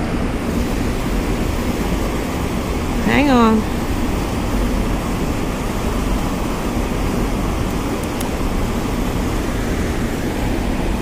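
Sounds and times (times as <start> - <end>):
water roaring over spillway: 0.0 - 11.0.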